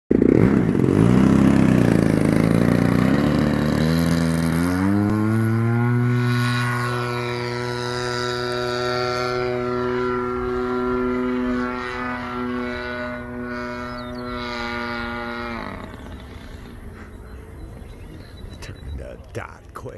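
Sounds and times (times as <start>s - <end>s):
model plane engine running: 0.1s - 18.6s.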